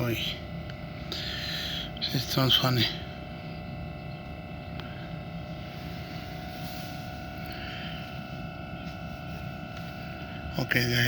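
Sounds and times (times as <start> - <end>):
train electrical and ventilation hum: 0.0 - 11.0.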